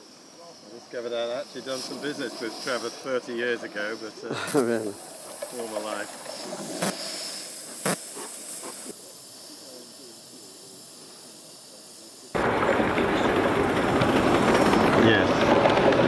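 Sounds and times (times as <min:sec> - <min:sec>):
faint steam hiss: 0:00.0 - 0:16.0
model locomotive rushing noise: 0:00.0 - 0:16.0.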